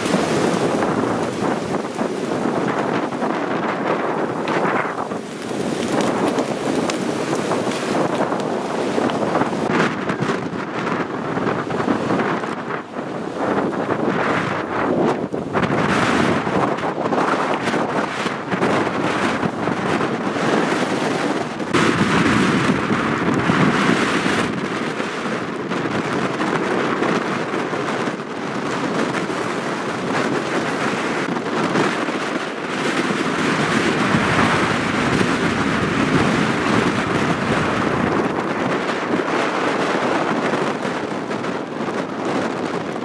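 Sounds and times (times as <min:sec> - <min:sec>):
brush fire crackling and popping: 0:00.0 - 0:43.0
wind on microphone: 0:00.0 - 0:43.0.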